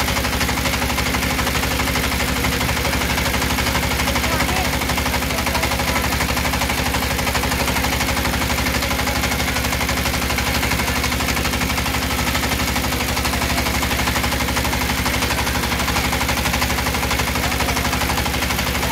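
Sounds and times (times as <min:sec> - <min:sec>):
engine chugging: 0:00.0 - 0:18.9.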